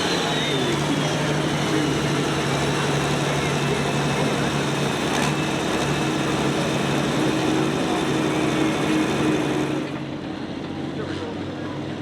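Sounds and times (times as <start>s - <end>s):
loud truck engine running: 0.0s - 12.0s.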